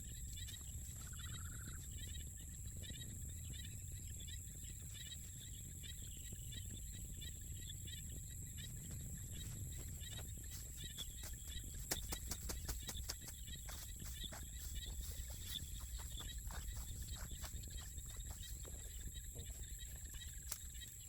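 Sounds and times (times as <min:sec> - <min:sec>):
wind rumble: 0:00.0 - 0:21.0
small animals chirping: 0:00.1 - 0:21.0.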